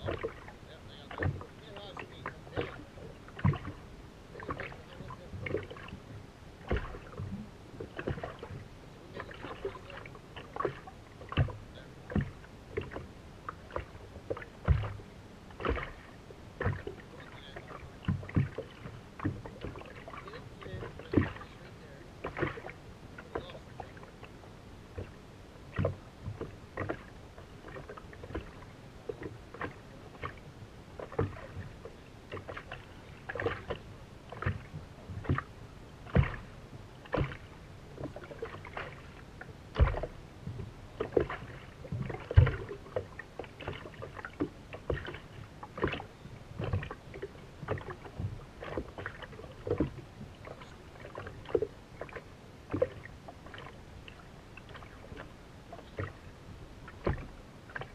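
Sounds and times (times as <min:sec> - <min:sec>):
waves slapping against hull: 0:00.0 - 0:57.9.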